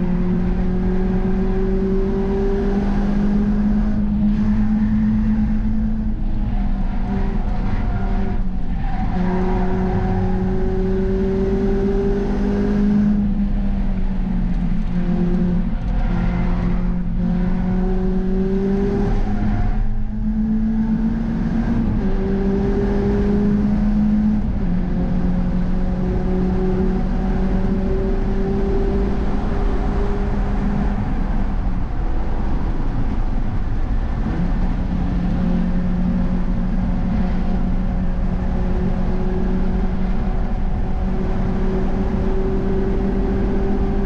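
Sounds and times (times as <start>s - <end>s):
car engine running hard: 0.0s - 44.0s
tyre and road roar: 0.0s - 44.0s.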